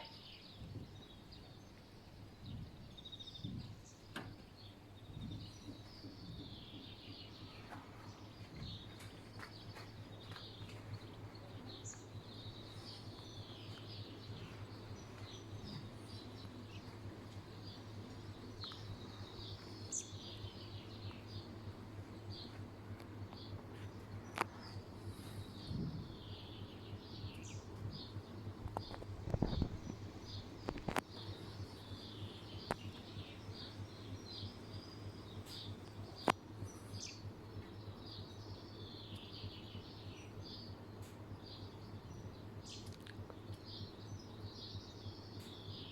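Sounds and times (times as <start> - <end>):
small birds chirping: 0.0 - 45.9
steady low hum: 0.0 - 45.9.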